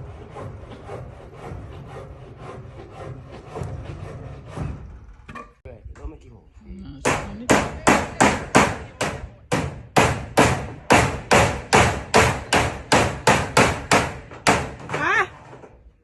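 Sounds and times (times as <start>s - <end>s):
hammer striking metal roofing: 0.0s - 5.6s, 7.0s - 15.8s.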